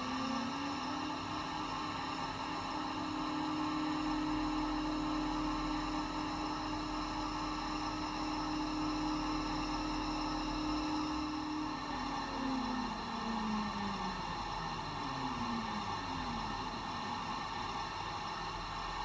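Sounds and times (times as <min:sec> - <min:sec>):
model railway motor whining: 0:00.0 - 0:19.0.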